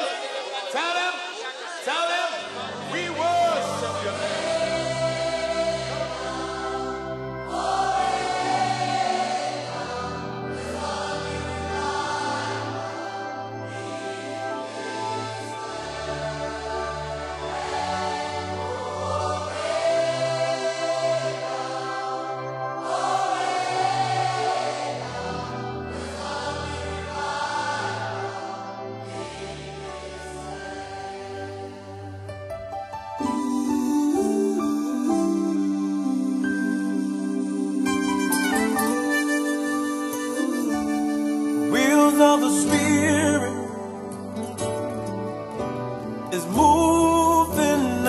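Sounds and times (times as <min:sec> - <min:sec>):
choir holding long notes: 0:00.0 - 0:48.0
gospel worship music: 0:00.0 - 0:48.0.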